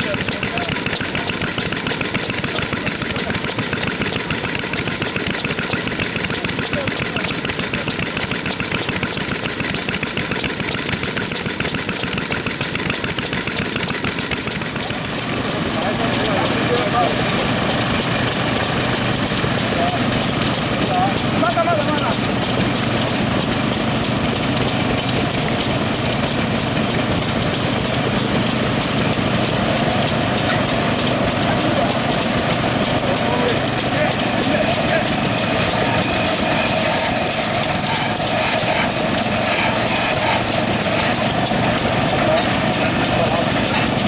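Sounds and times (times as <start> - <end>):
stationary engines chugging: 0.0 - 44.0.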